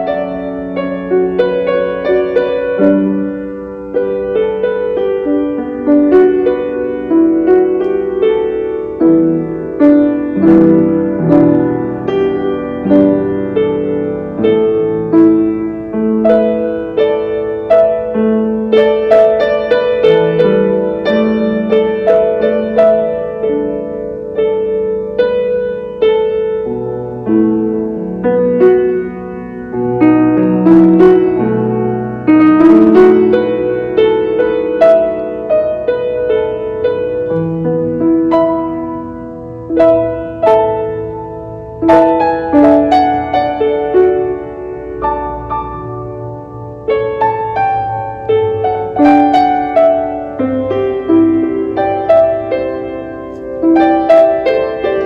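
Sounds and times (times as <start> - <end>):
grand piano solo: 0.0 - 55.0.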